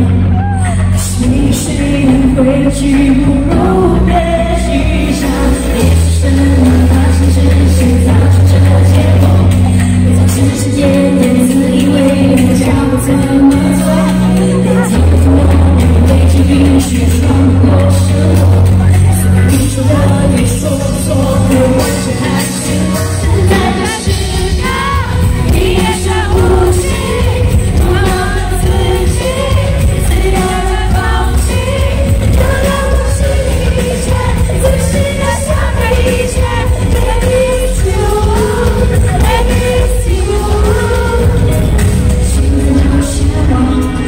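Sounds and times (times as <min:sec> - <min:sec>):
live pop band playing: 0:00.0 - 0:44.0
woman singing: 0:00.0 - 0:44.0.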